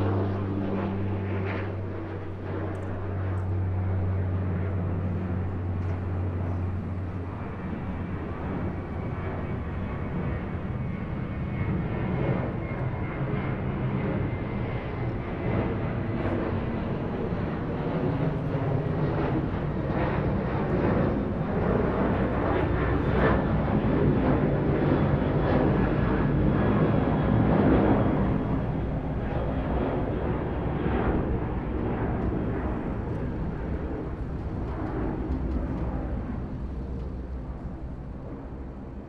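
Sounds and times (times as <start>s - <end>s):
airplane engine running: 0.0s - 39.0s.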